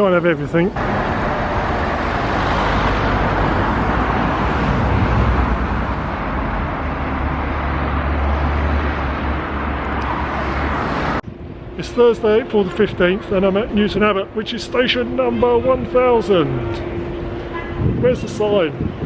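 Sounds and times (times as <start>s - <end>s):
train engine drone: 0.7s - 19.0s
rushing noise of moving train: 0.8s - 14.1s, 15.4s - 19.0s.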